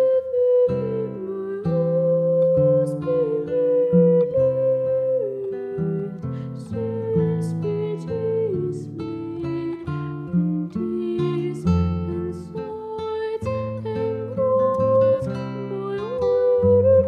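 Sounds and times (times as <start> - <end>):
acoustic guitar: 0.0 - 17.0
girl singing: 0.0 - 17.0.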